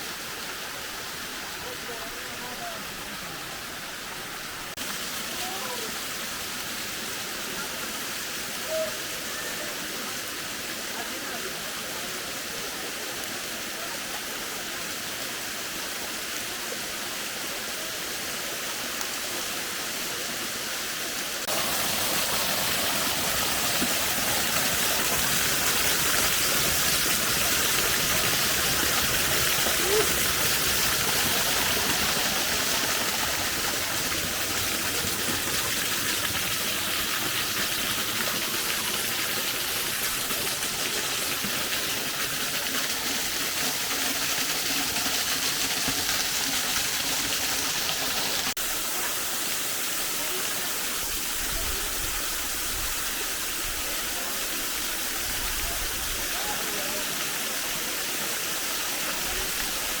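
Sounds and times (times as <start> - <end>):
rushing mountain water: 0.0 - 60.0.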